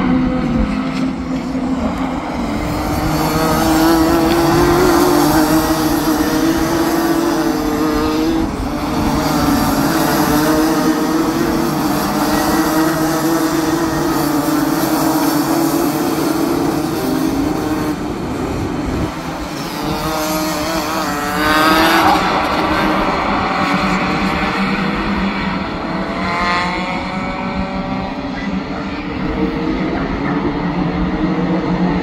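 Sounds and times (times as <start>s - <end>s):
kart accelerating with rising whine: 0.0s - 32.0s
kart engines running hard: 0.0s - 32.0s.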